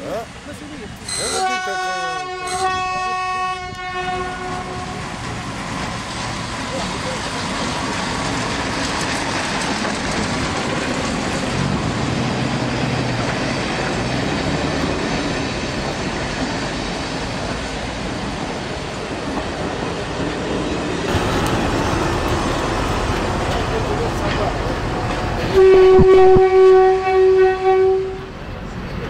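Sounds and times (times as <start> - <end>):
diesel locomotive engine drone: 0.0 - 29.0
train wheels rolling on rails: 0.0 - 29.0.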